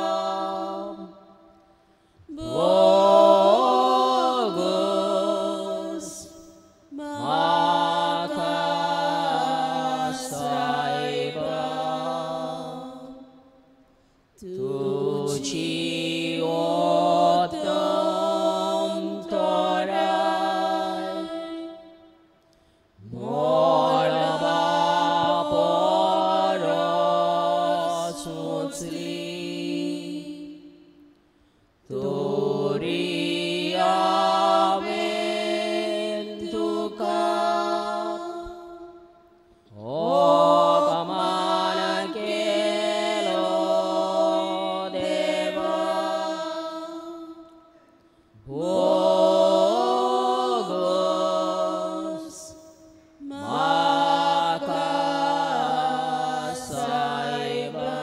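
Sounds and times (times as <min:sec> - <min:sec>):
person singing a hymn: 0:00.0 - 0:13.4, 0:14.4 - 0:22.2, 0:23.0 - 0:58.0.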